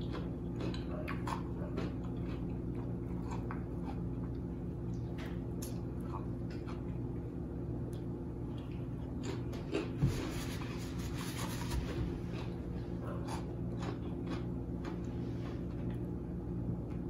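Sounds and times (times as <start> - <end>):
crunchy chewing: 0.0 - 16.2
steady low hum: 0.0 - 17.0.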